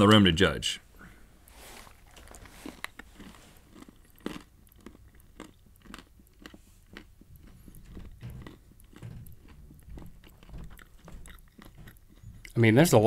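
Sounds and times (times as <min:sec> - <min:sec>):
person chewing crunchy nuts: 0:01.7 - 0:12.6.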